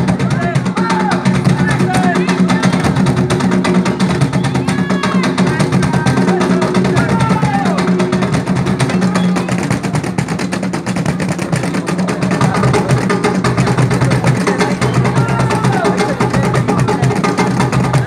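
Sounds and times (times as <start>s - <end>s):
cajon drums played by hand: 0.0s - 18.0s
crowd voices calling out: 0.0s - 18.0s.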